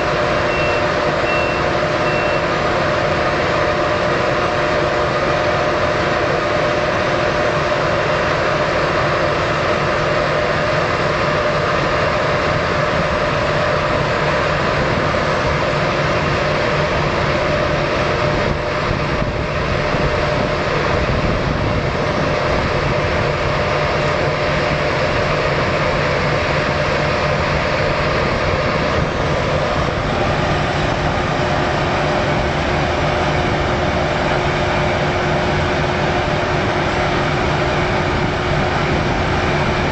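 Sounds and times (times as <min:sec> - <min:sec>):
combine harvester engine drone: 0:00.0 - 0:39.9
high whining machinery: 0:00.0 - 0:39.9.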